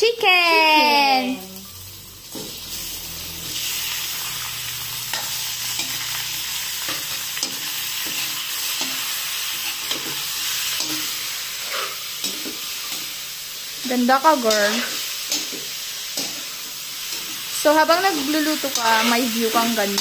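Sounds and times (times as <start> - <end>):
chicken sizzling in hot oil: 0.0 - 20.0
metal utensil scraping wok: 1.4 - 20.0.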